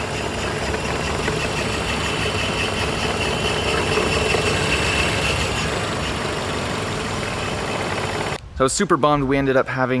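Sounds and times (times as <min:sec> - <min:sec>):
car engine idling roughly with misfire: 0:00.0 - 0:08.4.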